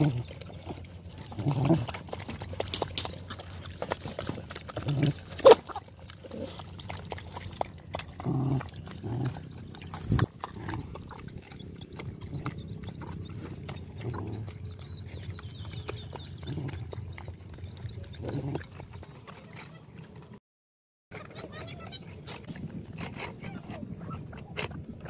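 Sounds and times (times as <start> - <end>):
dogs lapping and slurping food: 0.0 - 20.4, 21.1 - 25.0.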